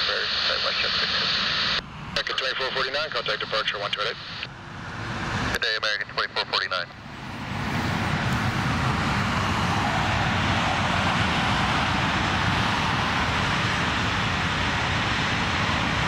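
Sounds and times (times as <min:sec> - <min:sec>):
jet airliner engine rushing: 0:00.0 - 0:16.0.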